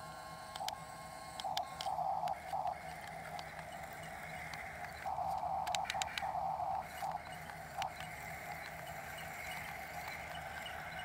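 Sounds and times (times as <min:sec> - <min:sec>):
toy motors whirring: 0:00.0 - 0:11.0
clicks: 0:00.5 - 0:10.8.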